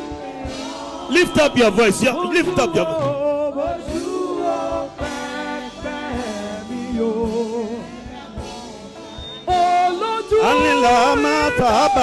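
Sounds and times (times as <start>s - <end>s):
gospel singing: 0.0s - 12.0s.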